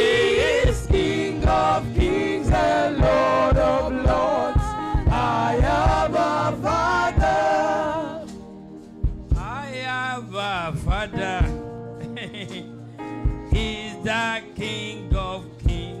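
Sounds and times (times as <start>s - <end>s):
gospel choir singing: 0.0s - 10.6s, 13.0s - 16.0s
steady drum beat: 0.0s - 12.2s, 13.1s - 14.1s, 14.9s - 16.0s.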